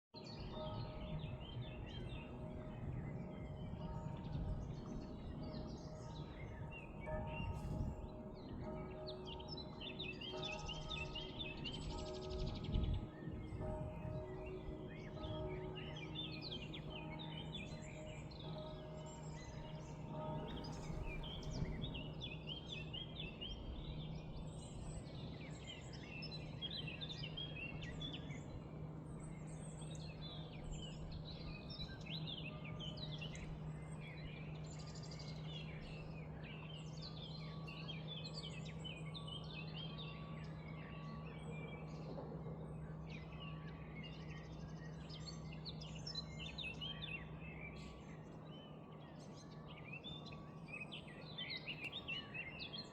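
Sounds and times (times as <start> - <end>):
songbirds chirping: 0.2 - 52.9.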